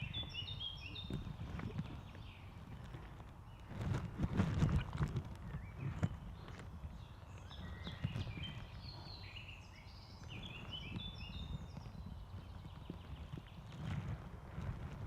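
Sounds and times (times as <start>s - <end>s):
bird chirping: 0.0s - 14.1s
low uneven rumbling: 0.0s - 15.0s.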